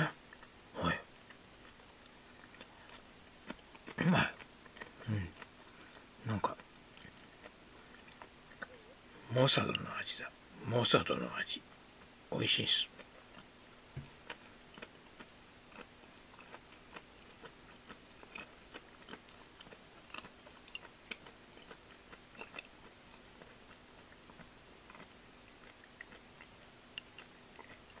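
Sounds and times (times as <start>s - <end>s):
crunchy food being chewed: 0.0s - 10.3s, 11.2s - 28.0s.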